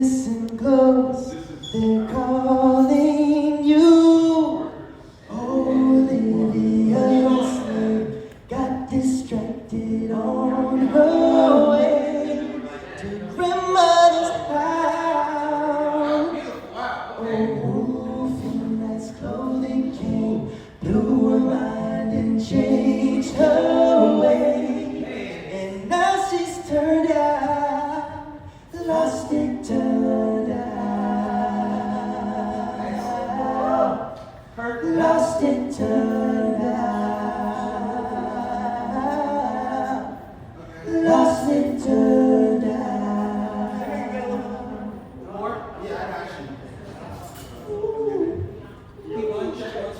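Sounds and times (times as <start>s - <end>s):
group singing in harmony: 0.0s - 45.4s.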